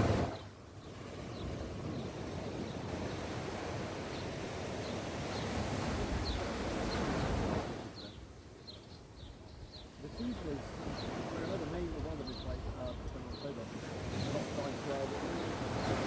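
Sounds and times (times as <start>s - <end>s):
sea waves washing onto beach: 0.0s - 8.0s, 10.0s - 16.0s.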